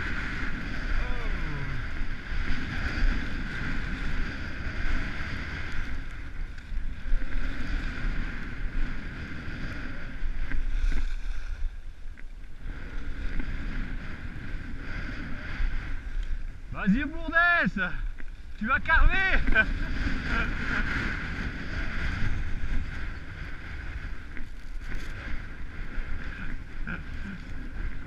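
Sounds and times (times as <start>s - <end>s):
skis scraping over snow: 0.0s - 28.0s
wind buffeting microphone: 0.0s - 28.0s.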